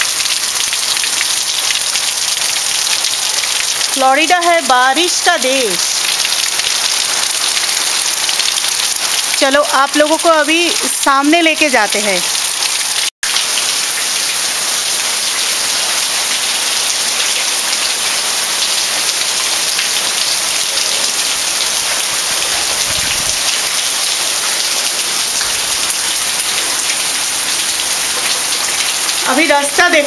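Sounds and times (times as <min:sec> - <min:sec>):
heavy rain pouring: 0:00.0 - 0:30.0
water streaming off roof: 0:00.0 - 0:30.0.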